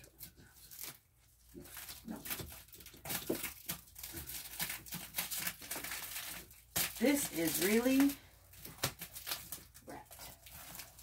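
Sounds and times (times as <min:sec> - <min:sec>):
plastic wrap crinkling and tearing: 0:00.0 - 0:11.0.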